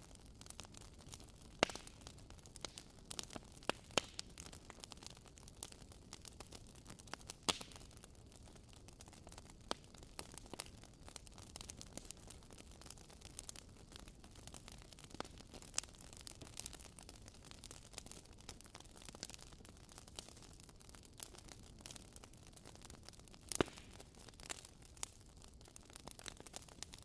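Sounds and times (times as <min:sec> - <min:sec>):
faint steady fire hiss: 0:00.0 - 0:27.0
wood fire snapping and popping: 0:00.0 - 0:27.0.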